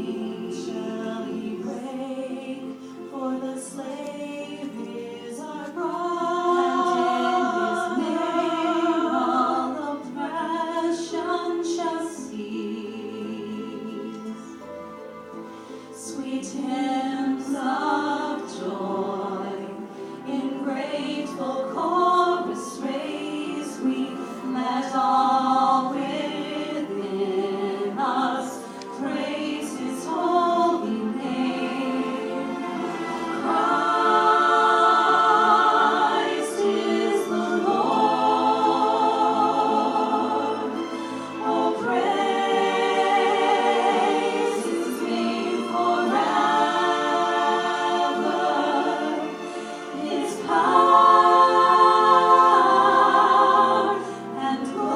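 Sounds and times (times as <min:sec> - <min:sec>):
choir singing unaccompanied: 0:00.0 - 0:14.6, 0:16.0 - 0:54.9.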